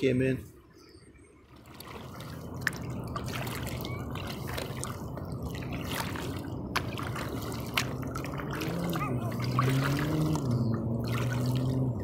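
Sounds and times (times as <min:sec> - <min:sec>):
kayak paddle stroking water: 0:01.4 - 0:12.0
water dripping off paddle: 0:01.6 - 0:11.8.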